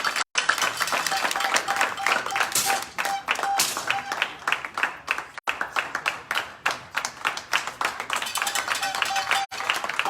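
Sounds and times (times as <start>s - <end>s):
audience clapping: 0.0s - 10.0s.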